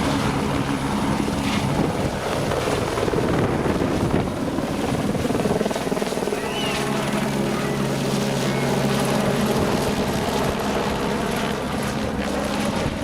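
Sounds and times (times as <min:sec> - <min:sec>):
helicopter rotor chop: 0:00.0 - 0:13.0.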